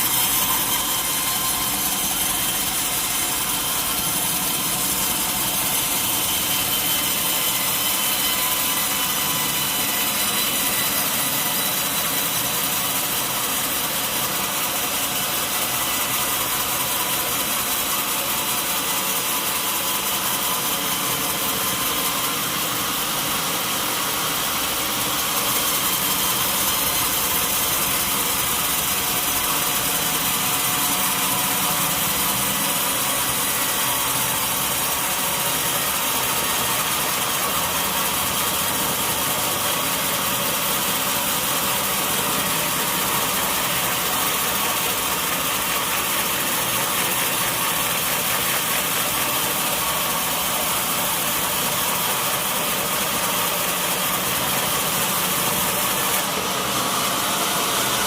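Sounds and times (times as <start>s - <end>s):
sawmill machinery drone with hiss: 0.0s - 58.0s.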